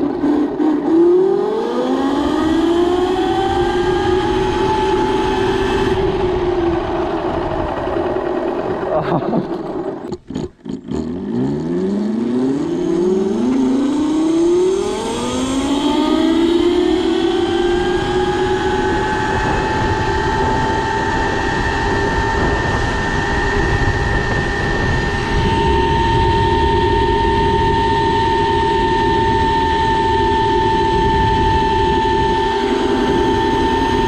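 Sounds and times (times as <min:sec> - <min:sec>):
electric motor whining: 0:00.0 - 0:34.0
wind rumble on microphone: 0:01.9 - 0:09.0, 0:12.5 - 0:34.0.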